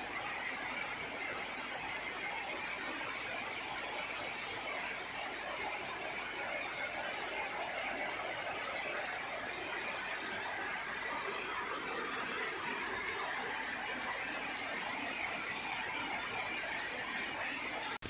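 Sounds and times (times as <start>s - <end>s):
faint raindrop ticks: 0.0s - 18.0s
steady rain hiss: 0.0s - 18.0s.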